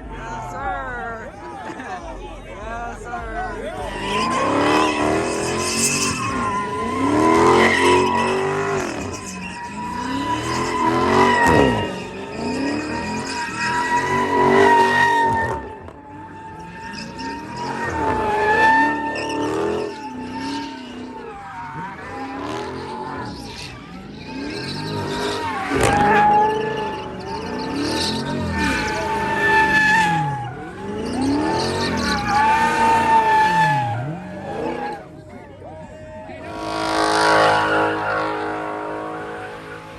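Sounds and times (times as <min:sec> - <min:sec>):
car engine revving: 0:00.0 - 0:39.9
tire squeal: 0:03.6 - 0:39.9.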